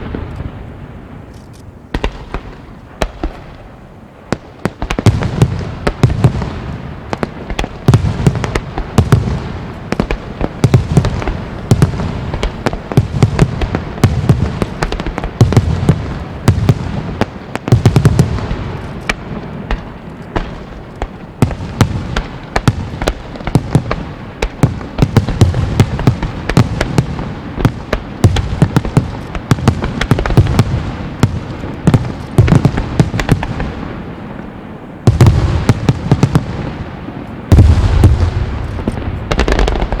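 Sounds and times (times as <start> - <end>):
deep fireworks booms: 0.0 - 40.0
fireworks crackling and popping: 0.0 - 40.0.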